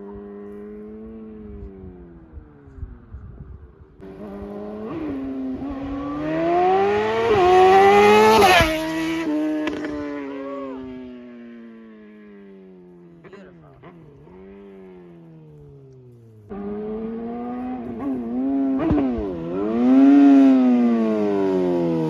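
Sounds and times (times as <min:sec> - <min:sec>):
motorcycle accelerating hard: 0:00.0 - 0:22.0
motorcycle passing by: 0:00.0 - 0:22.0.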